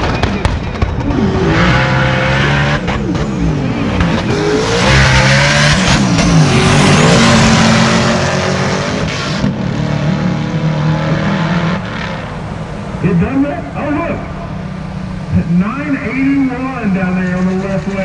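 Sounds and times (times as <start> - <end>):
race car engines shifting gears: 0.0 - 18.0.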